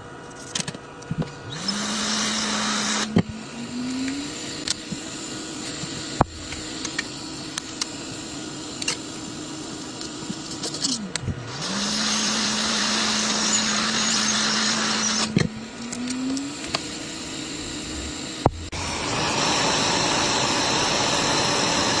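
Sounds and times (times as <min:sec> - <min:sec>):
small motorised tool humming: 0:01.1 - 0:22.0
steady hiss: 0:02.2 - 0:22.0.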